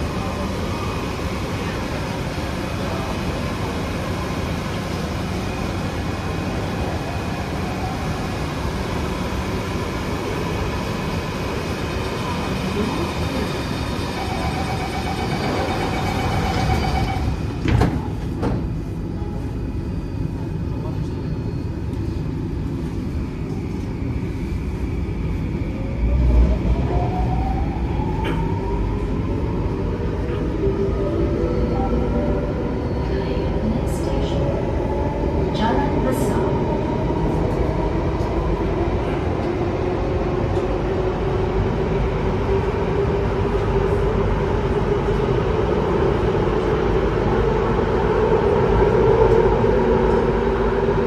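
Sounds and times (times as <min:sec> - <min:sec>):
train interior rumble: 0:00.0 - 0:51.0.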